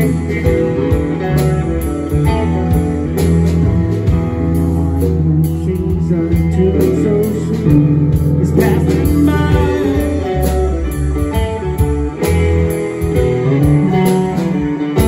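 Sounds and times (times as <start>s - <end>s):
drum kit beat: 0.0s - 15.0s
electric guitar: 0.0s - 15.0s
keyboard: 0.0s - 15.0s.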